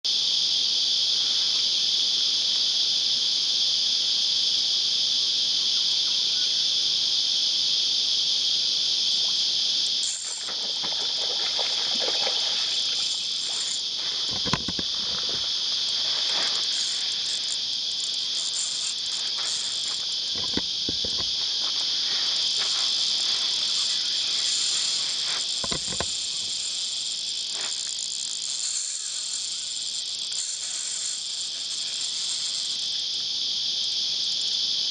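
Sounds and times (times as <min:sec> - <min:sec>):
cicadas droning: 0:00.0 - 0:34.9.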